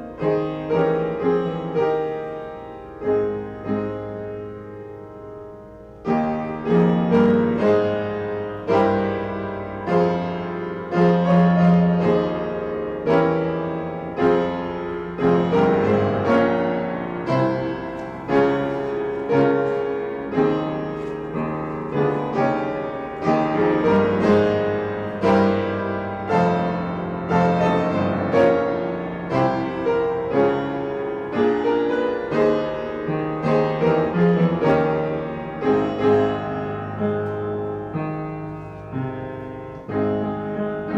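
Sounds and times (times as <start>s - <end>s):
slow solo piano piece: 0.0s - 40.9s.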